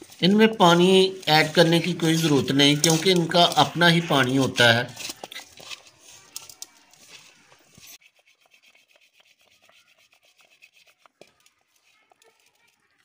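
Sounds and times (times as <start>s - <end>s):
potato sticks rubbing in steel bowl: 0.0s - 13.0s.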